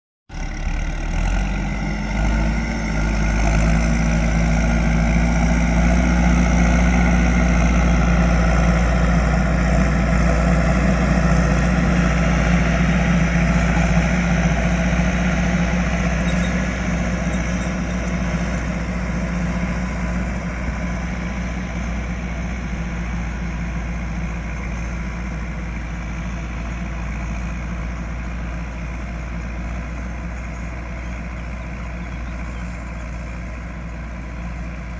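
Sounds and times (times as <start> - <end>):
tractor diesel engine running: 0.3 - 34.9.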